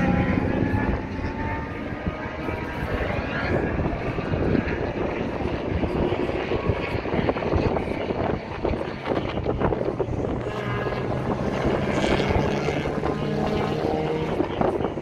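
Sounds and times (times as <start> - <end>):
distant racing engines rumbling: 0.0 - 15.0.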